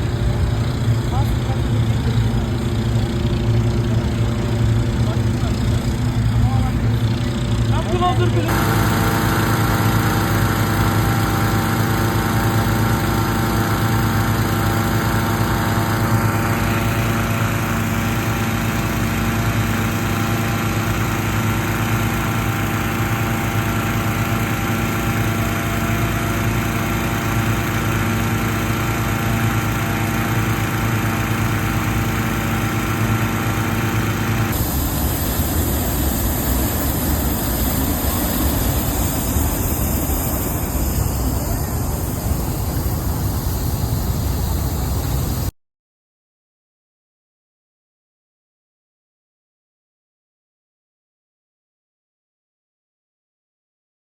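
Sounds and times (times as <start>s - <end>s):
engine humming steadily: 0.0s - 45.5s.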